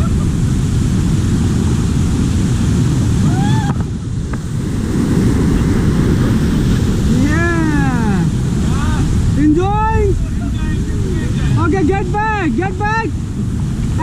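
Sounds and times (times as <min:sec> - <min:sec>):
river whitewater churning: 0:00.0 - 0:14.0
wind buffeting microphone: 0:00.0 - 0:14.0.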